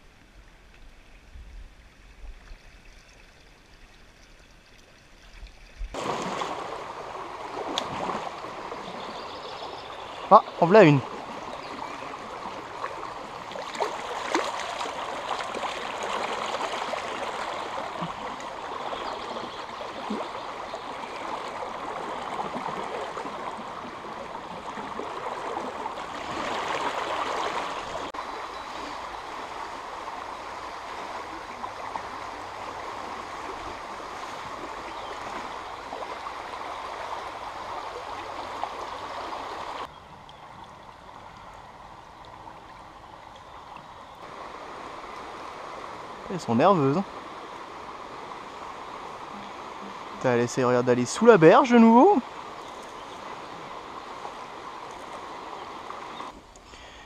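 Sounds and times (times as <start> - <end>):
stream rushing over stones: 5.9 - 39.9, 40.9 - 56.5.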